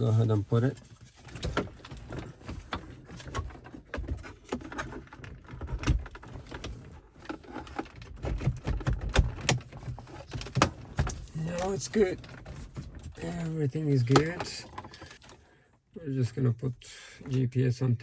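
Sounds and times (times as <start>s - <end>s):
plastic parts clicking and knocking: 0.7s - 15.4s.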